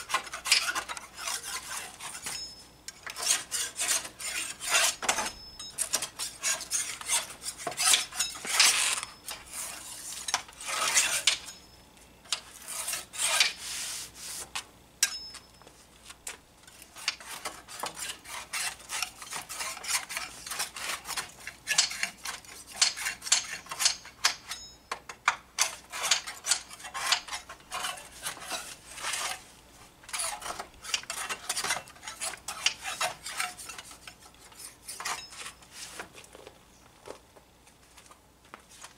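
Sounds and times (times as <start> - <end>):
metal scraper scraping wood: 0.0 - 11.6, 12.3 - 14.7, 16.3 - 24.7, 25.6 - 36.3.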